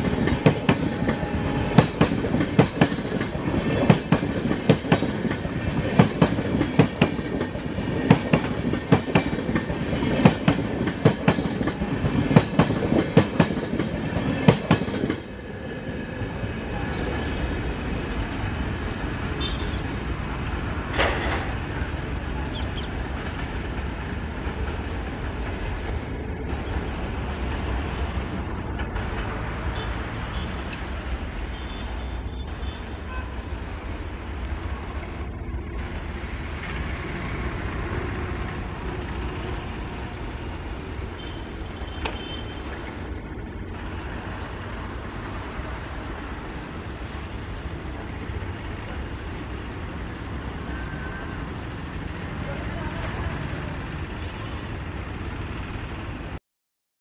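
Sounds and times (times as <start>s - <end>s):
train wheels rumbling and rattling: 0.0s - 56.4s.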